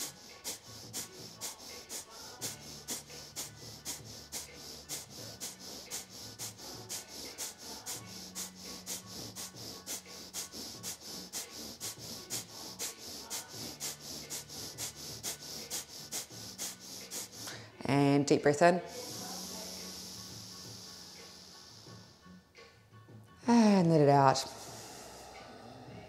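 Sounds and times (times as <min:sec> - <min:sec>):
sharp nasal exhalations: 0:00.0 - 0:17.8, 0:18.8 - 0:22.4, 0:24.4 - 0:26.0.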